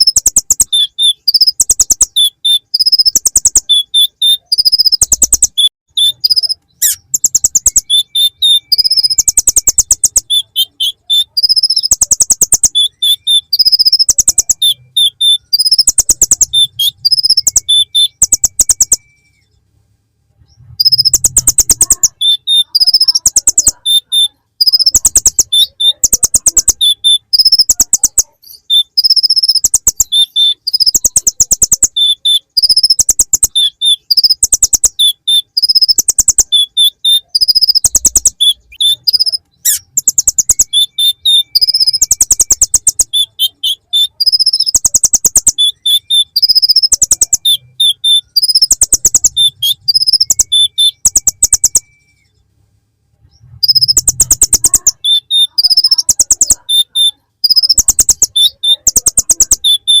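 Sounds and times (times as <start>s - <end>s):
bird singing high trills: 0.0s - 19.6s, 20.6s - 52.3s, 53.6s - 60.0s.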